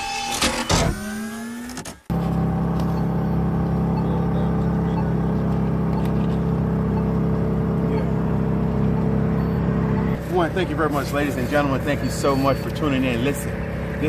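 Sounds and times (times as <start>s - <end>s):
low mechanical hum: 2.1s - 14.0s.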